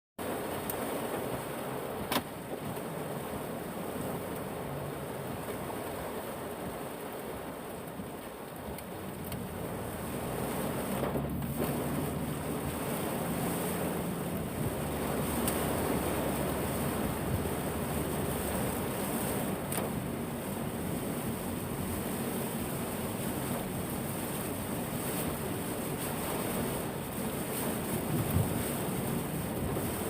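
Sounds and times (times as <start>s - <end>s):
heavy rain and wind: 0.2s - 30.0s.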